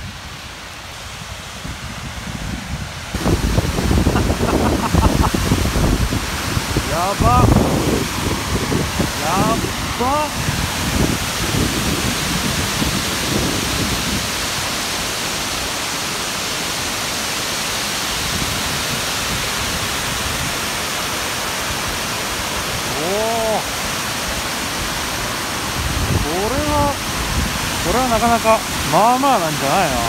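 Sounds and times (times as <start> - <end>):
water roaring over weir: 0.0 - 30.0.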